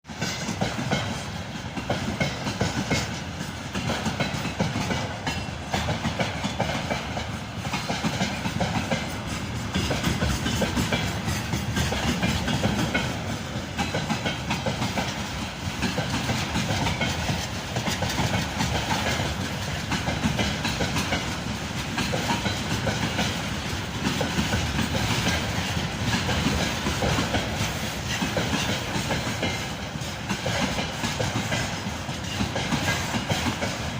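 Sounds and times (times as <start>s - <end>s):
train wheels clattering on rails: 0.0s - 33.9s
train running rumble: 0.1s - 33.9s.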